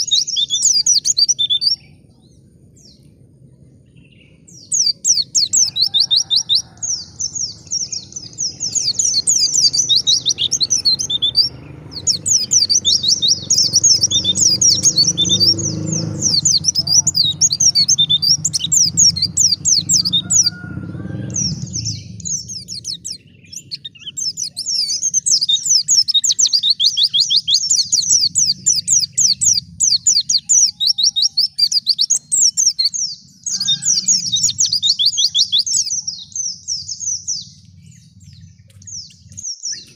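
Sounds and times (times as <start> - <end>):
bird singing rapid chirps: 0.0 - 39.9
low rumble: 0.2 - 26.1, 32.2 - 39.9.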